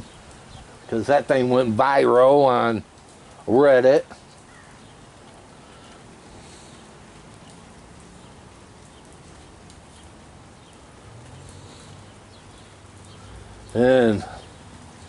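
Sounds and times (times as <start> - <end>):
steady hiss: 0.0 - 8.0, 9.7 - 15.0.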